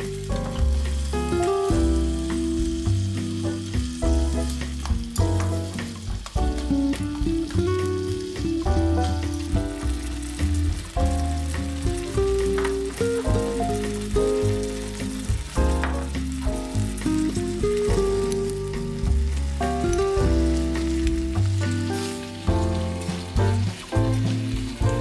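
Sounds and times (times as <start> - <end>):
melodic background music: 0.0 - 25.0
vegetables sizzling in a pot: 0.0 - 25.0.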